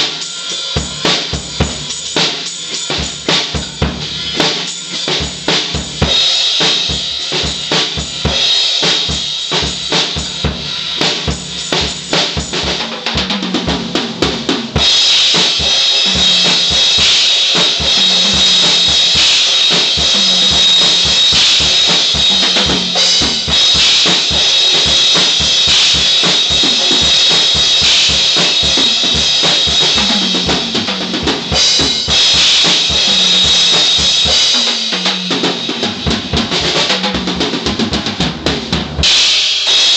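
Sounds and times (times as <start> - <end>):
cymbals ringing: 0.0 - 12.1, 14.8 - 35.1
drum kit playing: 0.0 - 39.9.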